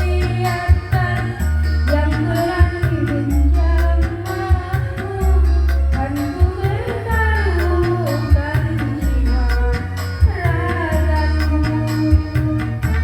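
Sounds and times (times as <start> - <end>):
booming bass beat with drums: 0.0 - 13.0.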